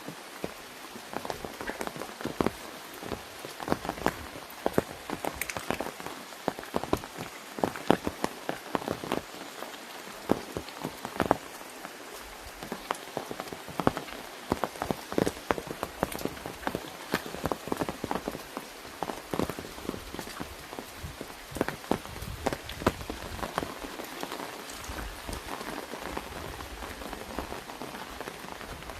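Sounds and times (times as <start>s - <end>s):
rain hissing on an umbrella: 0.0s - 28.9s
raindrops tapping umbrella canopy: 0.0s - 28.9s.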